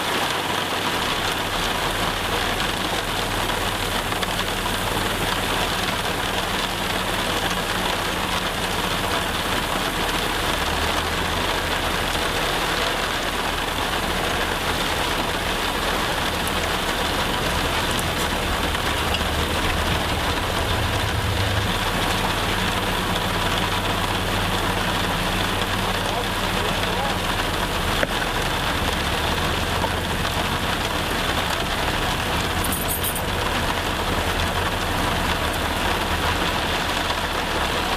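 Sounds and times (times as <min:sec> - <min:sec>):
rain falling: 0:00.0 - 0:37.9
heavy machine engine hum: 0:00.8 - 0:37.9.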